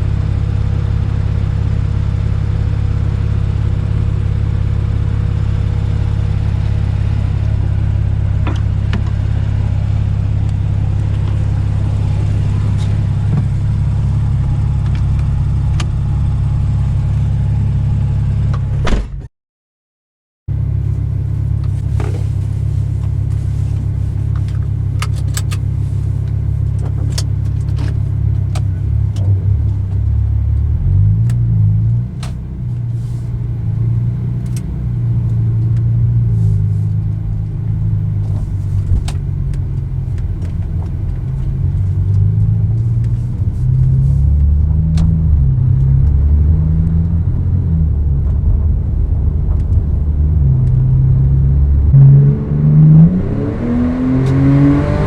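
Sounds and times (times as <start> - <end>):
car engine deep rumble: 0.0 - 19.3, 20.5 - 55.0.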